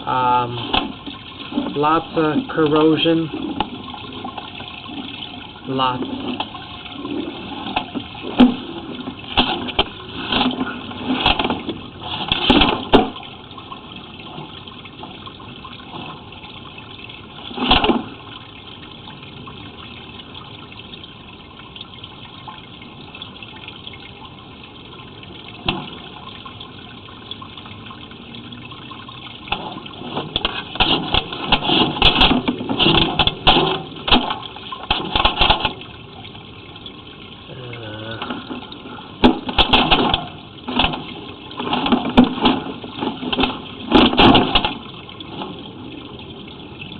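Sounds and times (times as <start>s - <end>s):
water rushing through pipe: 0.0s - 46.9s.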